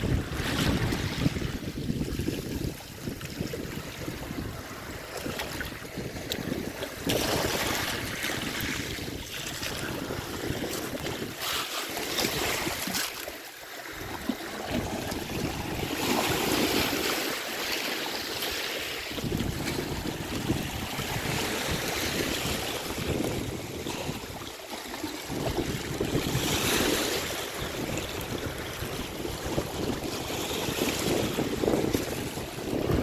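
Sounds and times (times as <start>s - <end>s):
wind buffeting microphone: 0.0s - 11.4s, 14.0s - 17.1s, 19.1s - 33.0s
waves washing over pebbles: 0.0s - 33.0s.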